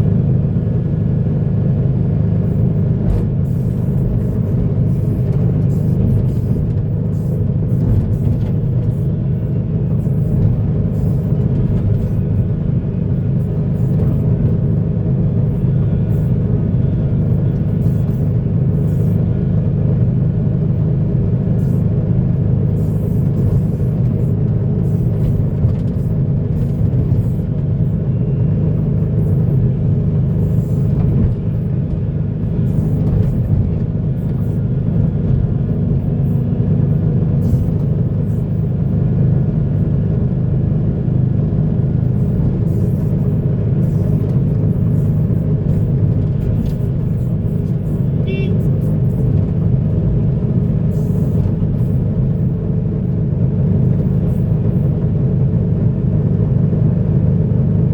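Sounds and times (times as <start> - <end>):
diesel machinery engine rumble: 0.0 - 57.9.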